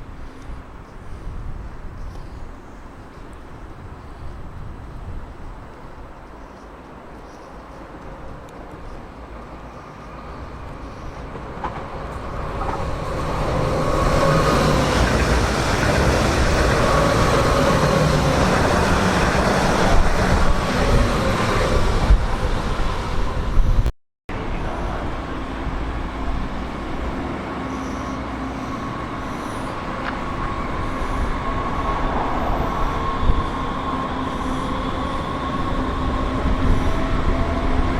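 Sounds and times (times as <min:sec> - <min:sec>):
train passing with whine: 0:05.7 - 0:37.9.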